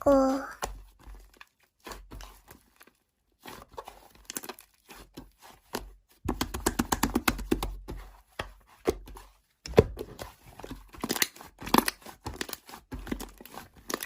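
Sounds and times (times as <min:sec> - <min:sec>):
slime squishing with sticky pops: 0:00.6 - 0:14.0.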